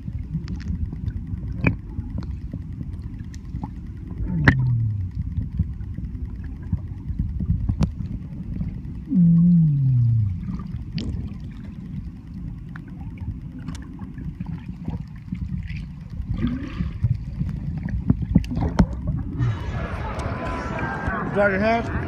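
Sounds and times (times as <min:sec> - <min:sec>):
underwater water rumble: 0:00.0 - 0:22.0.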